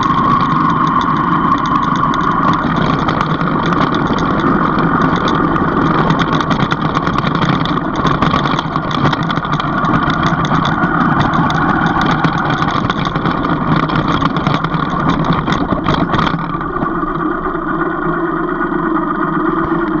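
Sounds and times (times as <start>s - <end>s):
short knocks and rattles: 0.0s - 17.2s
vehicle engine running: 0.0s - 20.0s.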